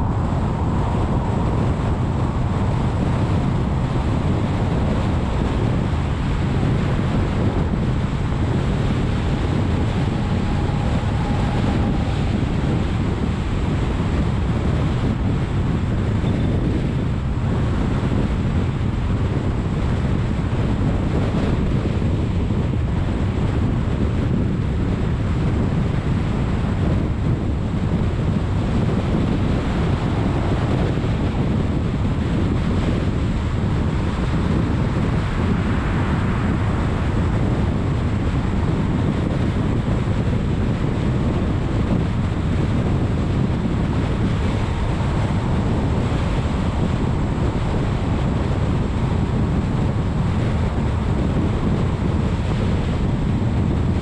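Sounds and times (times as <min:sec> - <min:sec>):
tyre and road noise: 0:00.0 - 0:54.0
wind rushing over camera: 0:00.0 - 0:54.0.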